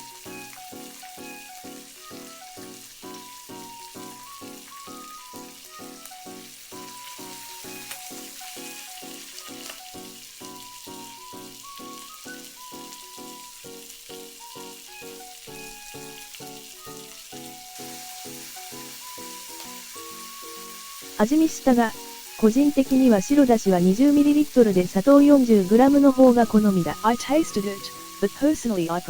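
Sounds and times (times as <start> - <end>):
egg sizzling in a pan: 0.0 - 29.0
light background music: 0.0 - 29.0.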